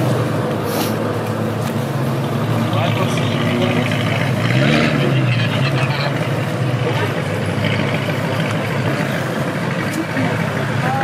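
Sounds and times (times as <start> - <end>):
car engine pulling away: 0.0 - 11.0.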